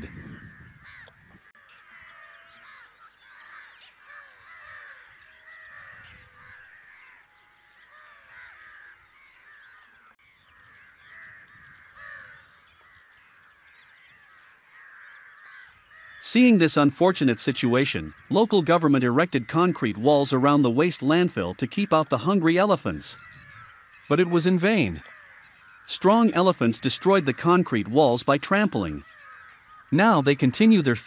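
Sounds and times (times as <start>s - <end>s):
crows cawing: 0.0s - 16.8s, 21.9s - 31.0s.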